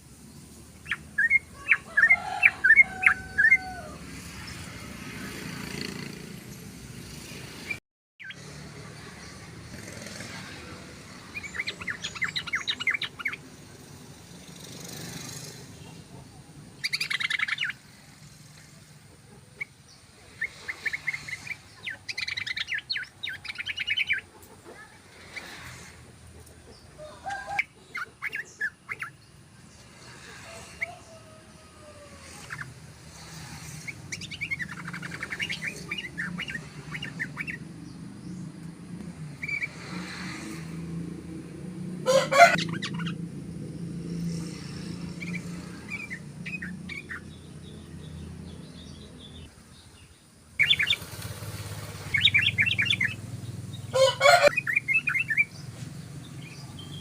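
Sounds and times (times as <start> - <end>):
bulbuls chattering song: 0.5 - 57.0.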